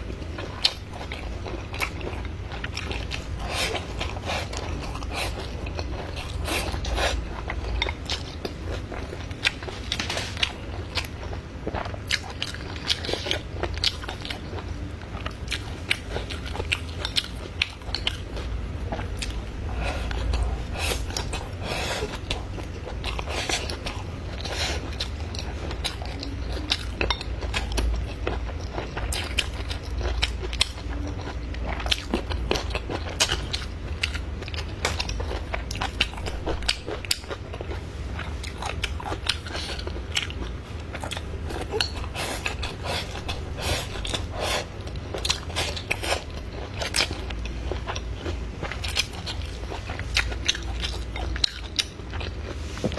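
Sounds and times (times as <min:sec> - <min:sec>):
low steady hum: 0:00.0 - 0:52.9
chewing and biting food: 0:00.1 - 0:52.9.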